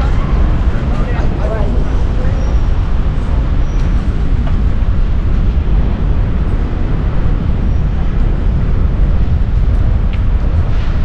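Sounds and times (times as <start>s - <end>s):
street traffic noise: 0.0s - 11.0s
wind buffeting microphone: 0.0s - 11.0s.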